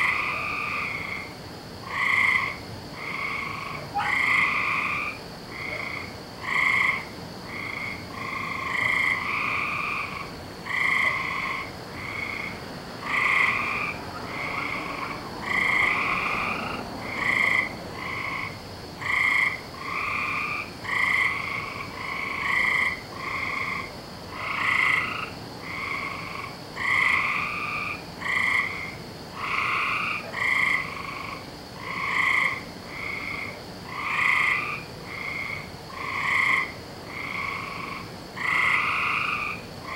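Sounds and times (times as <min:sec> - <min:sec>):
frogs calling: 0:00.0 - 0:39.9.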